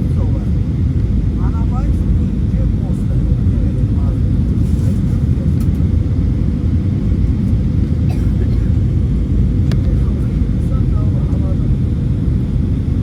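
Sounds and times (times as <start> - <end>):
airplane engines rumbling in cabin: 0.0 - 13.0.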